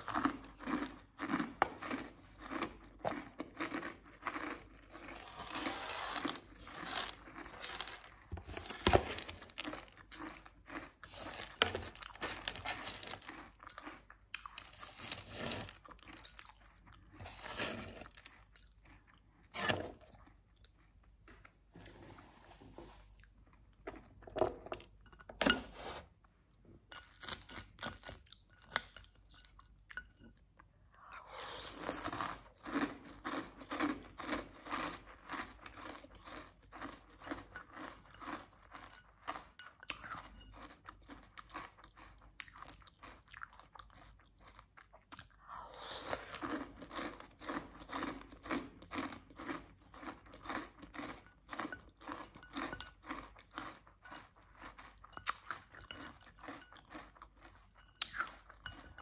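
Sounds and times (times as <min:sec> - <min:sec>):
person chewing crunchy cereal: 0:00.0 - 0:59.0.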